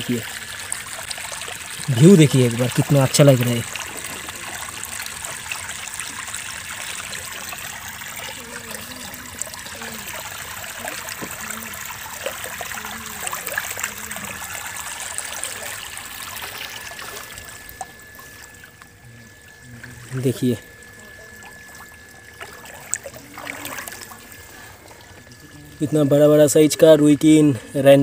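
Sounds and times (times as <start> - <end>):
water trickling and splashing: 0.0 - 28.0.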